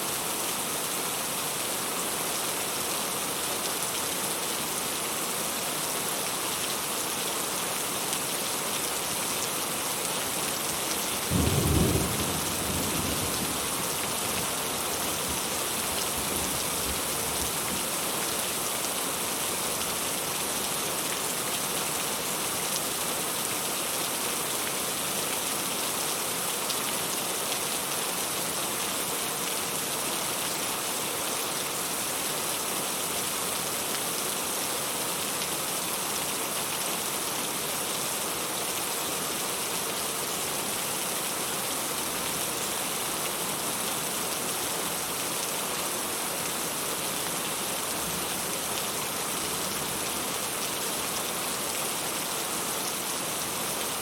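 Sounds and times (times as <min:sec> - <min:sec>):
heavy rain falling: 0:00.1 - 0:54.0.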